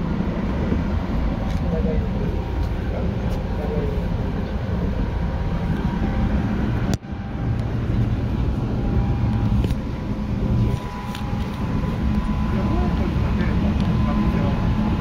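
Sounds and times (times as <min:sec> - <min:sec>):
faint traction motor tones: 0:00.8 - 0:15.0.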